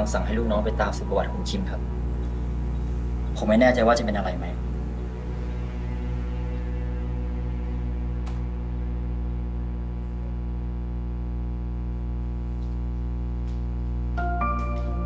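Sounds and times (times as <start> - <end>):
low droning music: 0.0 - 11.9, 13.0 - 15.0.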